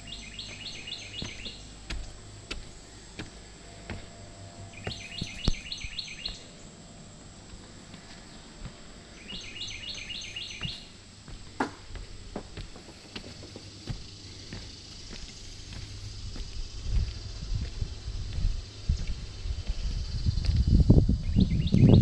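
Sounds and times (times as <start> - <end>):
songbird singing: 0.0 - 22.0
footsteps on wooden boards: 0.4 - 6.5, 7.4 - 19.8.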